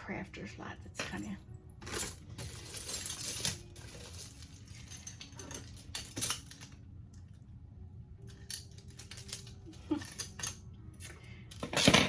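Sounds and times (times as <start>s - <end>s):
metal jewelry clinking: 0.8s - 7.4s, 8.2s - 12.0s.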